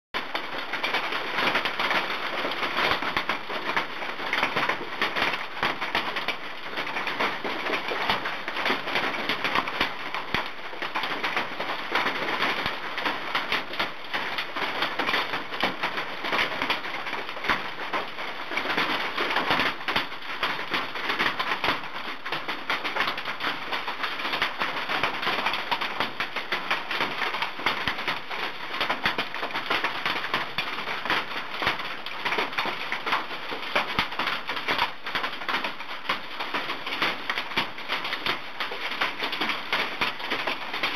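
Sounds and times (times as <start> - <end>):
hailstones pelting down: 0.2 - 40.9.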